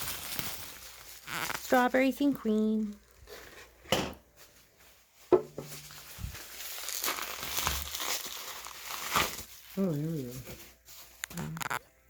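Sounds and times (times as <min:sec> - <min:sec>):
packing material rustling: 0:00.0 - 0:03.8, 0:04.4 - 0:12.0.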